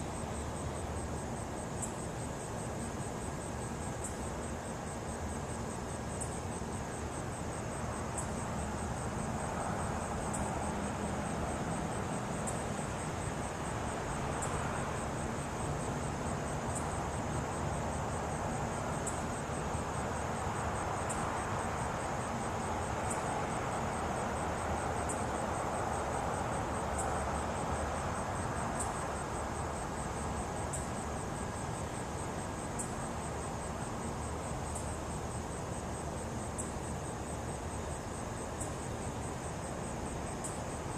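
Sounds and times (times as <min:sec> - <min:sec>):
insects trilling: 0:00.0 - 0:40.9
sharp insect chirp: 0:00.0 - 0:40.9
steady background hiss: 0:00.0 - 0:40.9.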